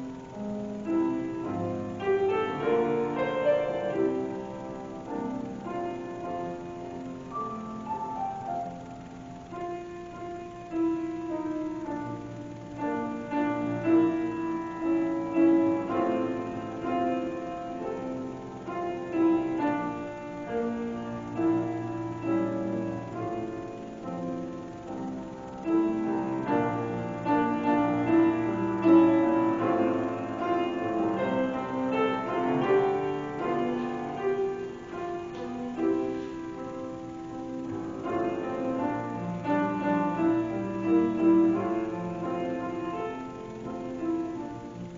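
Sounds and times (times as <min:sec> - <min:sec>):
solo piano music: 0:00.0 - 0:44.9.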